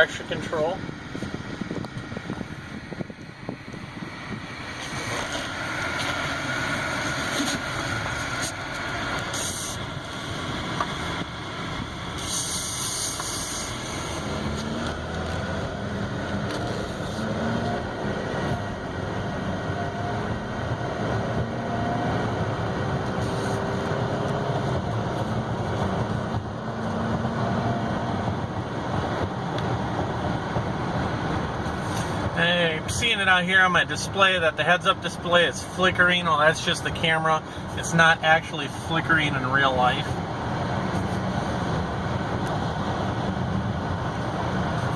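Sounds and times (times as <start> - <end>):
road and tyre noise: 0.0 - 44.9.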